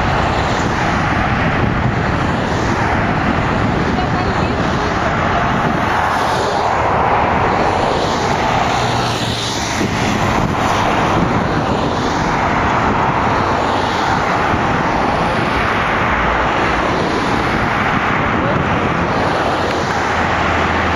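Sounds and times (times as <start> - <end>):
jet engines at takeoff: 0.0 - 20.9.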